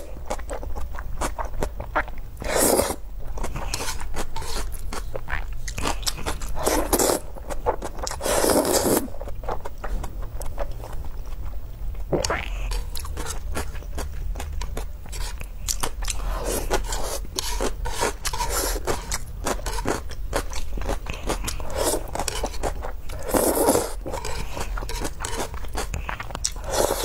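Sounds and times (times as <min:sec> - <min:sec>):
wet chewing and slurping: 0:00.2 - 0:11.4, 0:12.1 - 0:27.0.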